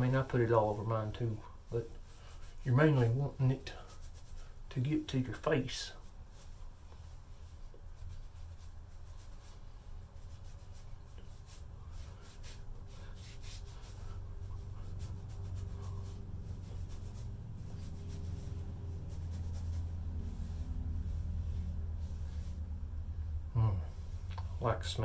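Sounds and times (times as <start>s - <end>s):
fingers rubbing through beard: 0.0s - 25.0s
steady low hum: 0.0s - 25.0s.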